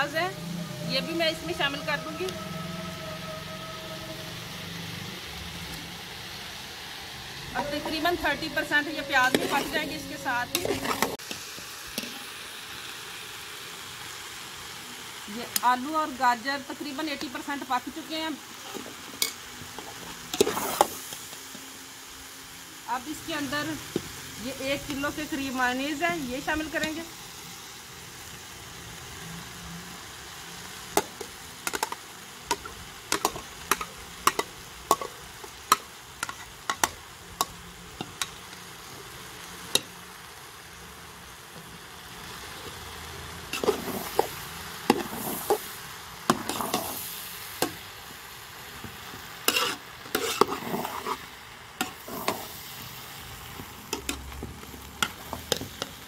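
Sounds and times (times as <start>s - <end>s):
food sizzling in a pot: 0.0s - 56.0s.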